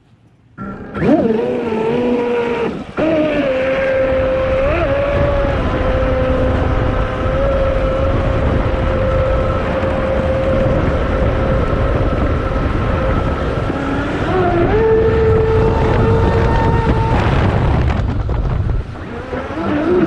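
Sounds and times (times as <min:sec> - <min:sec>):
water and wind rushing: 0:00.0 - 0:20.0
electric motor whining: 0:00.6 - 0:20.0.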